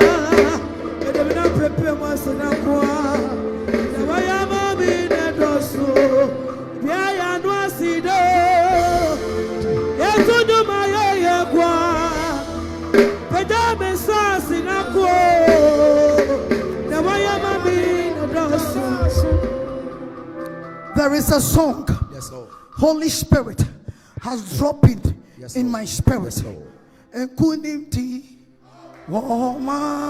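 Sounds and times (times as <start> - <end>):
person singing worship song: 0.0 - 22.7, 28.0 - 30.0
keyboard accompaniment: 0.0 - 24.2.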